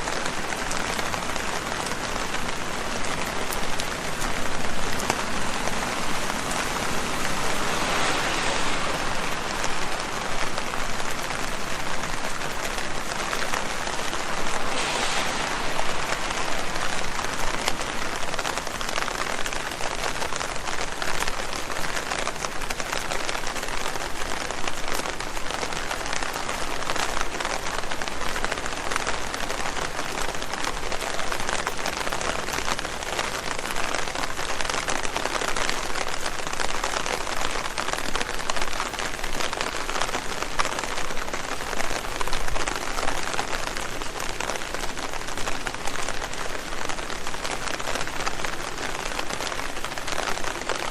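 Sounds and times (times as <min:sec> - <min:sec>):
rain pattering on leaves: 0:00.0 - 0:50.9.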